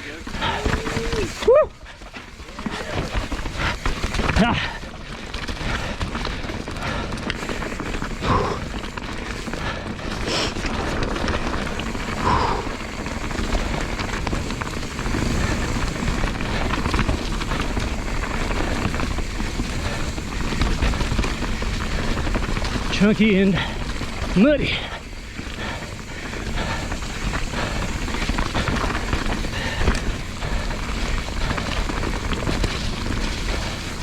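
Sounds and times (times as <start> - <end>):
bike rattling over rock: 0.0 - 34.0
tyres rushing through mud: 0.0 - 34.0.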